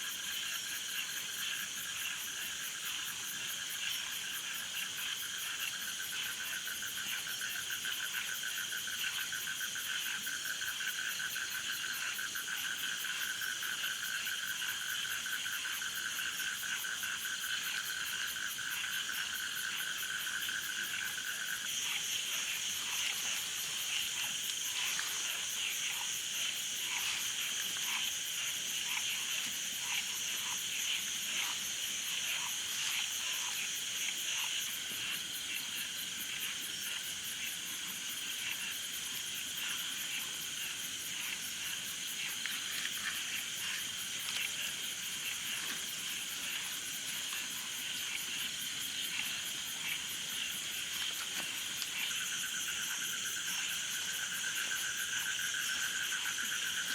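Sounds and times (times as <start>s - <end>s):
frogs and insects trilling: 0.0s - 56.9s.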